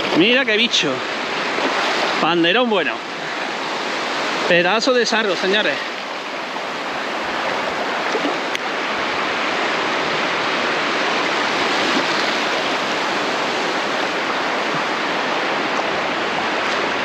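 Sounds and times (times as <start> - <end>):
sea surf washing on shore: 0.0 - 17.0.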